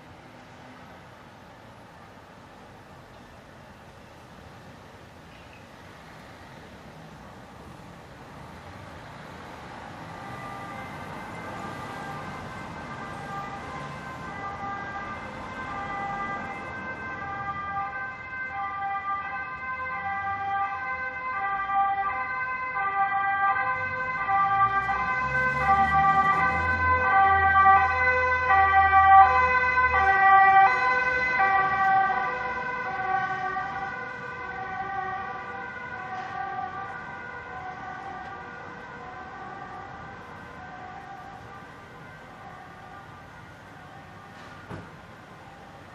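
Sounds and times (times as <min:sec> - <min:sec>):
vehicle low rumble: 0:00.0 - 0:45.9
ambulance two-tone siren: 0:09.0 - 0:45.9.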